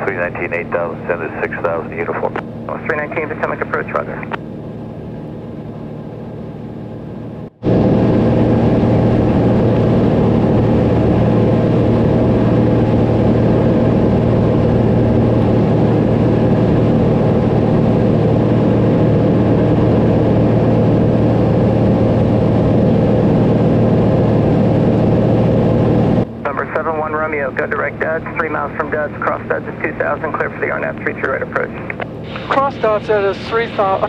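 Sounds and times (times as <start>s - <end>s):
airplane engine droning in cabin: 0.0s - 34.0s.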